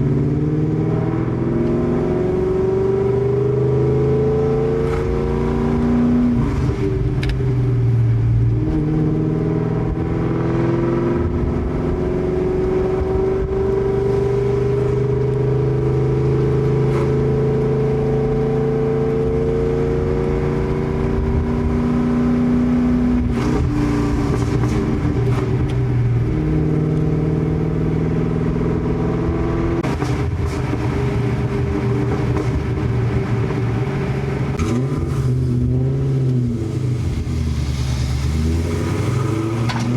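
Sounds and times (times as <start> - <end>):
car engine exhaust while driving: 0.0 - 39.9.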